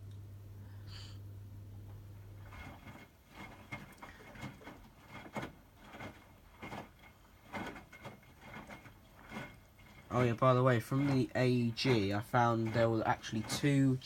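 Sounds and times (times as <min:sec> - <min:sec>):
washing machine tumbling laundry: 0:00.0 - 0:14.0.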